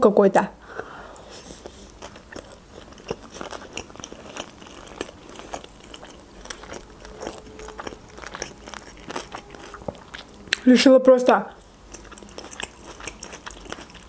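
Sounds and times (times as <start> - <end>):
person chewing food: 0.6 - 10.6, 11.5 - 14.0.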